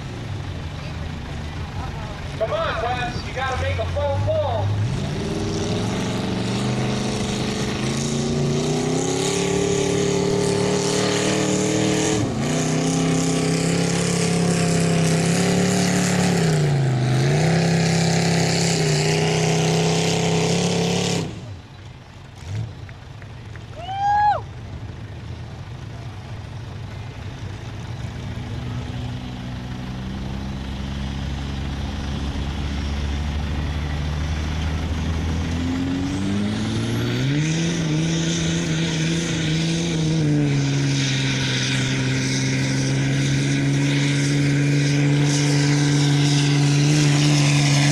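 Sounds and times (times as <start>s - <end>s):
quieter diesel engine revving: 0.0s - 23.7s, 24.6s - 47.9s
diesel truck engine under load: 0.0s - 47.9s.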